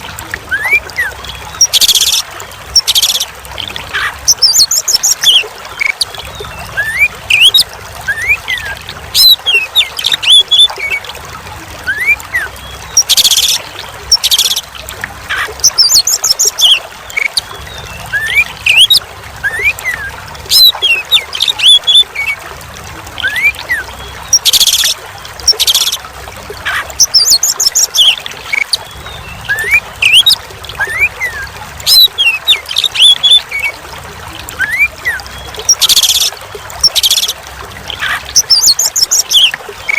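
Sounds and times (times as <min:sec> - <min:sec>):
water trickling: 0:00.0 - 0:39.9
bird song: 0:00.4 - 0:02.2, 0:02.8 - 0:11.1, 0:11.8 - 0:14.7, 0:15.3 - 0:22.4, 0:23.2 - 0:26.0, 0:26.7 - 0:33.8, 0:34.6 - 0:39.9.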